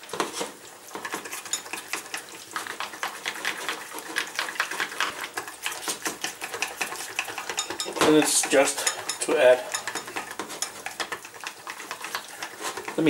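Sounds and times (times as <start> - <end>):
whisk clicking against saucepan: 0.9 - 13.0.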